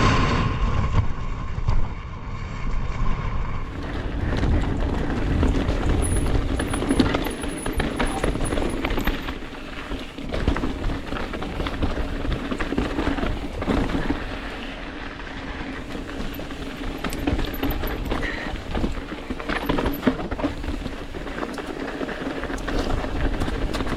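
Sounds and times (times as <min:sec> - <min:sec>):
wind buffeting microphone: 0:00.0 - 0:23.9
mountain bike rattling: 0:03.6 - 0:23.9.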